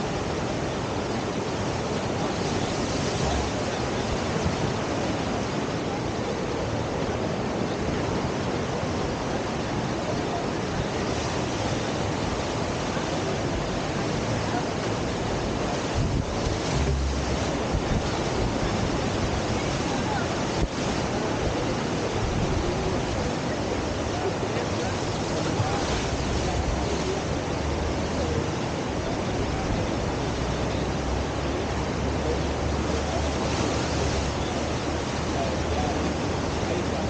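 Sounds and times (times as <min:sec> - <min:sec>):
river water rushing: 0:00.0 - 0:37.0
wind buffeting microphone: 0:00.0 - 0:37.0.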